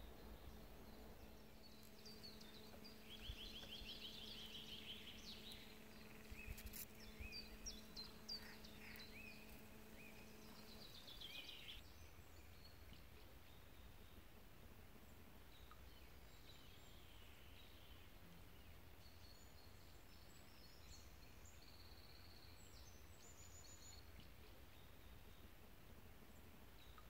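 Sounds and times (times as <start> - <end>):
songbirds singing: 0.0 - 14.4, 15.0 - 27.0
faint low hum: 0.0 - 27.0.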